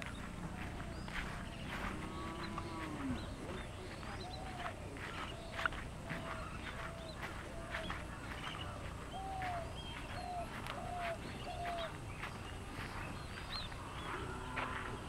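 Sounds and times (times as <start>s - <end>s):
bird repeating low arched note: 0.0s - 15.0s
birds chirping: 0.0s - 15.0s.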